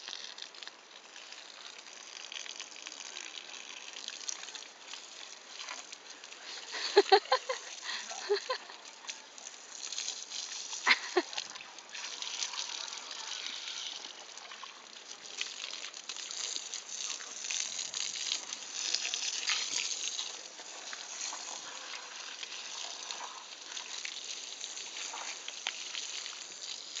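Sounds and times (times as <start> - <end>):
hose water spraying and splashing: 0.0 - 27.0.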